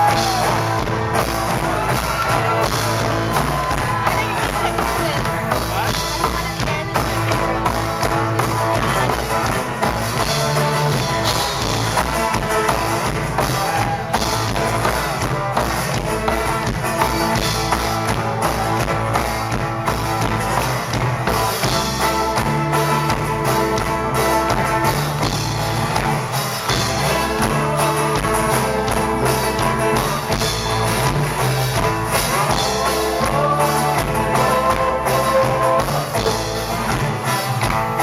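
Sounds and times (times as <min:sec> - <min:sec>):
live folk-rock band playing: 0:00.0 - 0:38.0.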